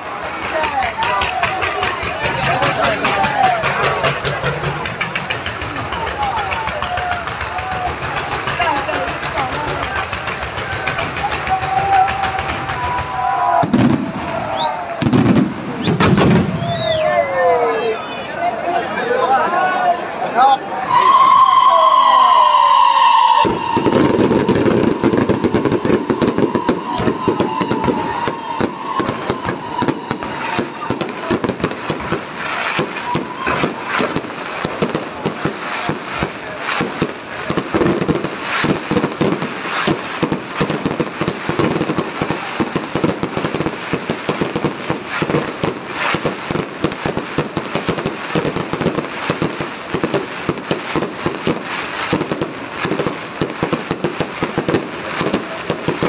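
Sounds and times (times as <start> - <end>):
fireworks bursting and crackling: 0.0 - 18.0, 20.7 - 56.0.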